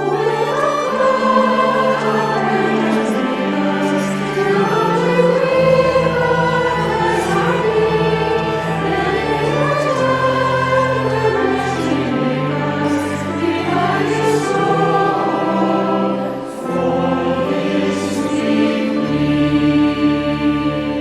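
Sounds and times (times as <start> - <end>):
choir singing: 0.0 - 21.0
sustained instrumental accompaniment: 0.0 - 21.0.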